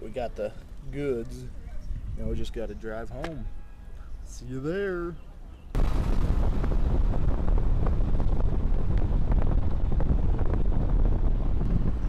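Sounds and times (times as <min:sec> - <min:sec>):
wind buffeting microphone: 0:00.0 - 0:04.3, 0:05.7 - 0:12.0.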